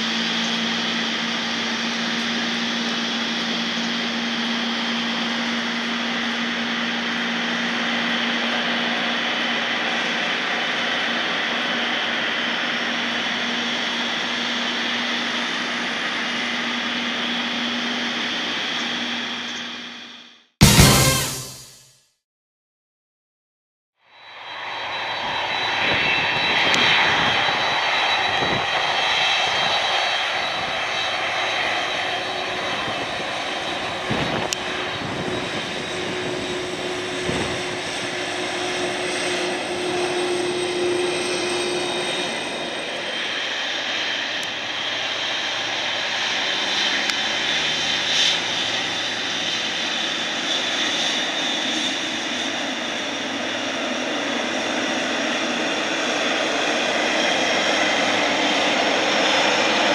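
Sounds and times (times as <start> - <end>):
jet engines whining: 0.0 - 21.8, 24.2 - 59.9.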